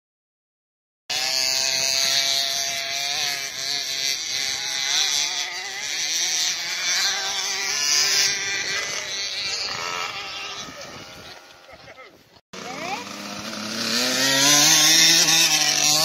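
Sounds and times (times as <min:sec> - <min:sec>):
motocross engine revving: 0:01.1 - 0:16.0.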